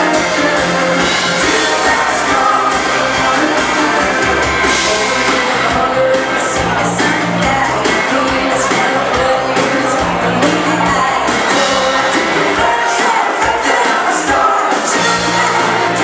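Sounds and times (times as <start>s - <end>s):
live dance band playing: 0.0s - 16.0s
person singing: 0.0s - 16.0s.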